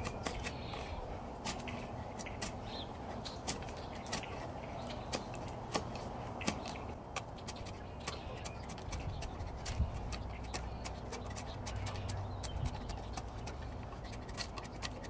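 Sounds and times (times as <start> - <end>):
knife whittling wood: 0.0 - 15.0.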